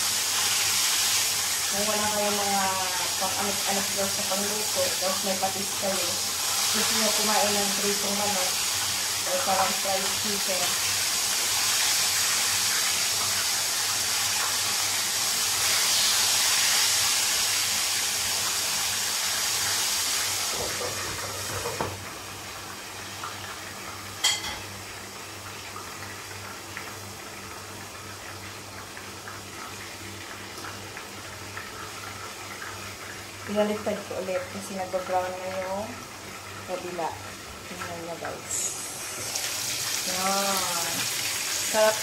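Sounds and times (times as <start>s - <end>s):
chicken sizzling in frying pan: 0.0s - 42.0s.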